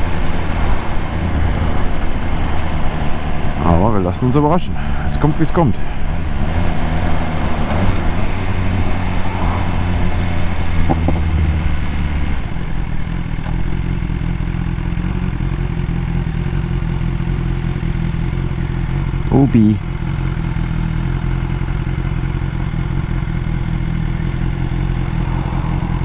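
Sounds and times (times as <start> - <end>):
motorcycle engine running: 0.0 - 26.0
rushing riding noise: 0.0 - 26.0.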